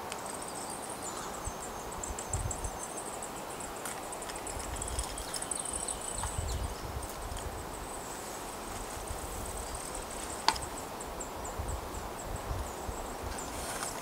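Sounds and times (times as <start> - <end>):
songbird chirps and trills: 0.0 - 14.0.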